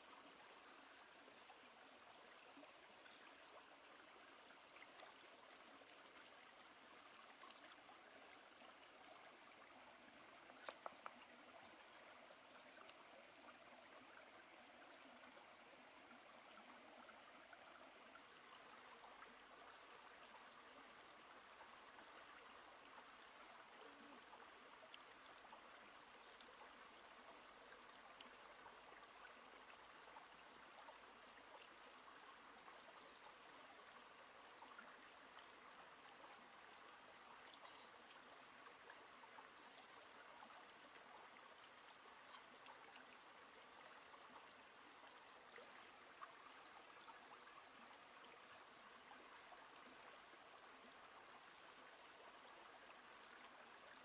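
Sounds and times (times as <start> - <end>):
stream trickling over rocks: 0.0 - 54.0.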